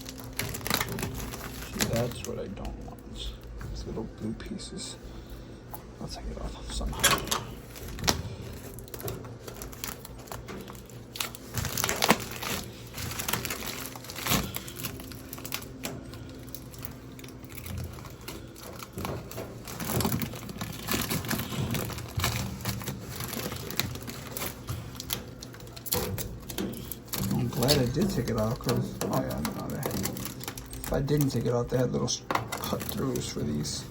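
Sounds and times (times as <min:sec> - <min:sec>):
plastic film peeling and crinkling: 0:00.0 - 0:04.1, 0:06.8 - 0:33.9.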